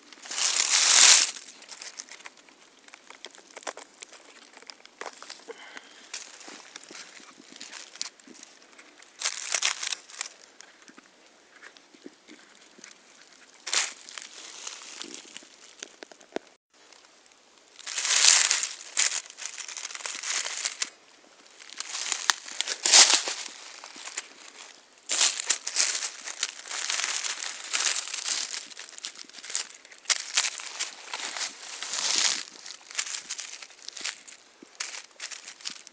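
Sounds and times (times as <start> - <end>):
dry leaves rustling and crunching: 0.0 - 10.8, 12.3 - 16.3, 17.0 - 35.9.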